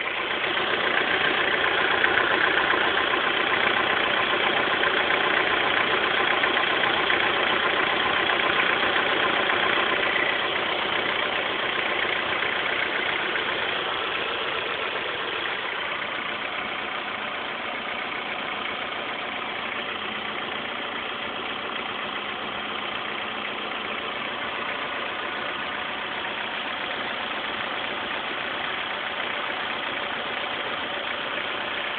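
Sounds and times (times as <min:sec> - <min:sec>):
car engine idling with rattle: 0:00.0 - 0:31.9.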